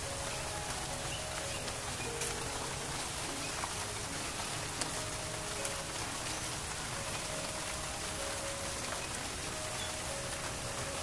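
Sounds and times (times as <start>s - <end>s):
steady rainfall: 0.0s - 11.0s.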